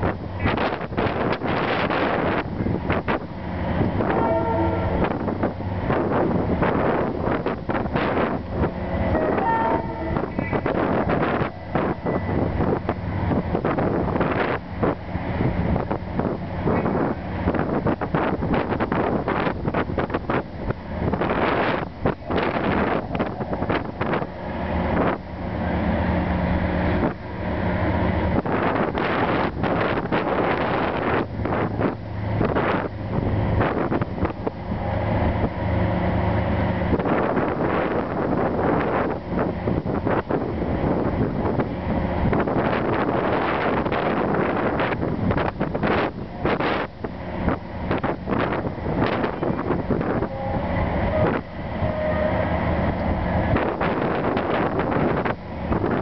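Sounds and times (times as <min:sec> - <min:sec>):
diesel locomotive engine drone: 0:00.0 - 0:56.0
wind buffeting microphone: 0:00.0 - 0:56.0.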